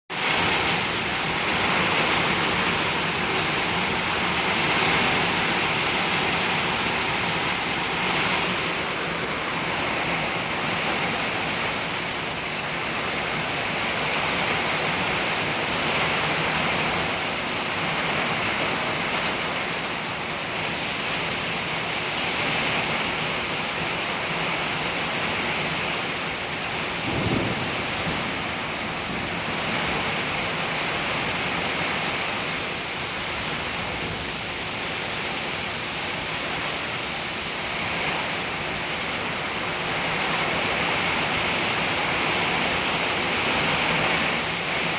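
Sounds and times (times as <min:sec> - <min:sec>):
heavy rain pouring: 0:00.1 - 0:44.9.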